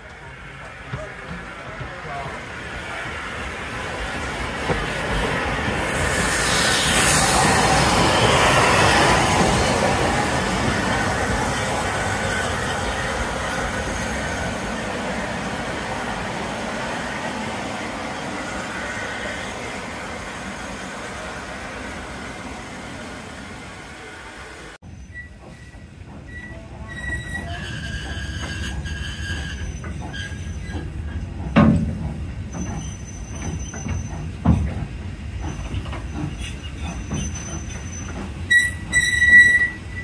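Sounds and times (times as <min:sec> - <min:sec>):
steam locomotive hissing rush: 0:00.0 - 0:40.0.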